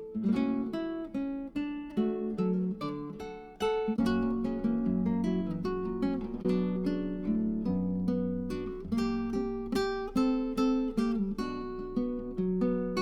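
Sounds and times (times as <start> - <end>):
acoustic guitar plucking and strumming: 0.0 - 13.0.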